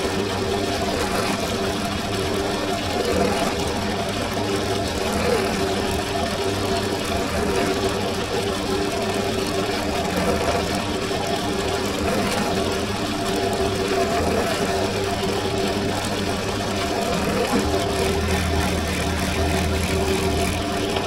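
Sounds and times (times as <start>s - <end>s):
drill press motor hum: 0.0s - 21.0s.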